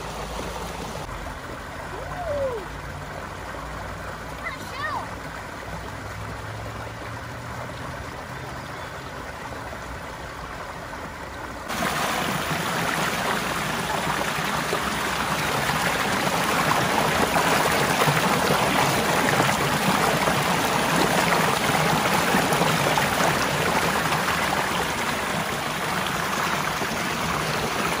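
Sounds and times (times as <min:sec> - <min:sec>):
water rushing over rocks in metal pipe: 0:00.0 - 0:28.0.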